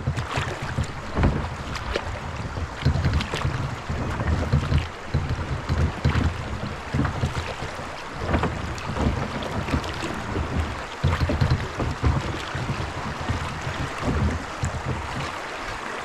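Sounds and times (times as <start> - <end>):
wind buffeting microphone: 0.0 - 15.6
water rushing and splashing: 0.0 - 16.0.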